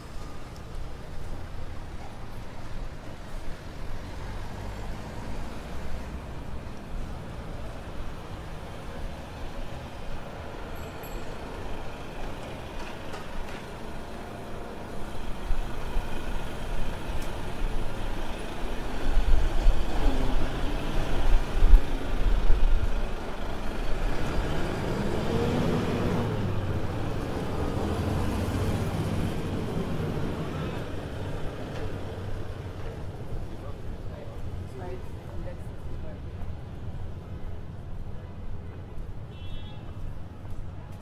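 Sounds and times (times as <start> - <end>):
bus engine rumble: 0.0 - 39.3
street noise: 0.0 - 41.0.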